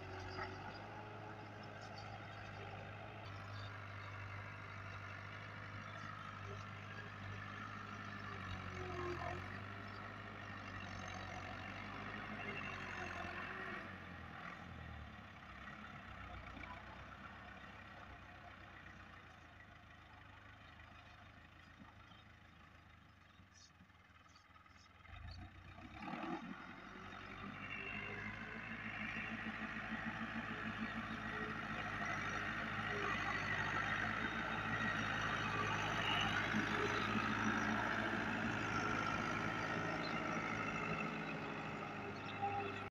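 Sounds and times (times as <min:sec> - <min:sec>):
tractor diesel engine under load: 0:00.0 - 0:42.9.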